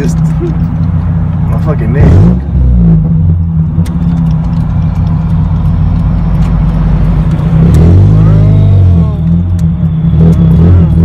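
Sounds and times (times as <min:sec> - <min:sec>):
loud car engine drone: 0:00.0 - 0:11.0.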